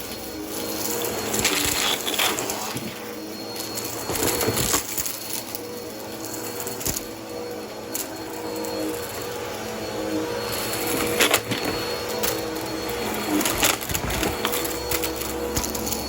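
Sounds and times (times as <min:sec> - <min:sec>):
vacuum cleaner motor hum: 0:00.0 - 0:16.0.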